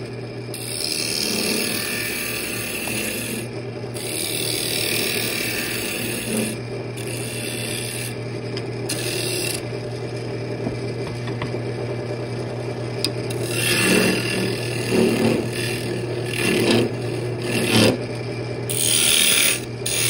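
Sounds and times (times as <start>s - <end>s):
wood lathe humming: 0.0s - 20.0s
turning tool scraping wood: 0.5s - 10.2s, 13.1s - 20.0s.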